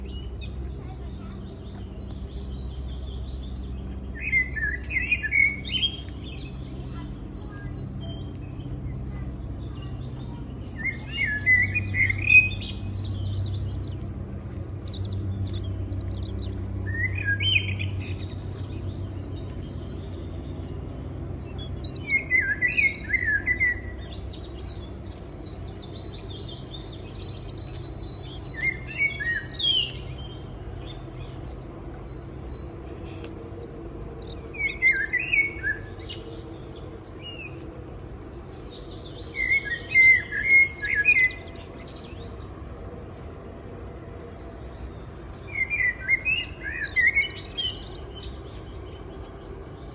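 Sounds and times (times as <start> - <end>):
low steady rumble: 0.0 - 49.9
songbird singing: 0.0 - 49.9.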